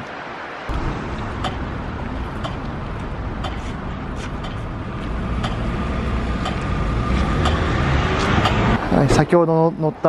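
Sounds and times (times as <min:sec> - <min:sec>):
city street traffic rumble: 0:00.0 - 0:10.0
vehicle approaching: 0:00.7 - 0:10.0.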